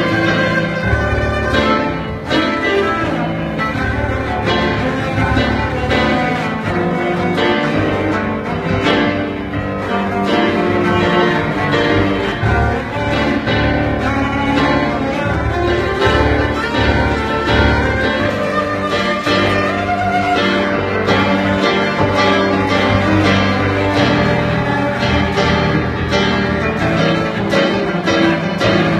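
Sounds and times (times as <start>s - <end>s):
bowed cello: 0.0s - 28.9s.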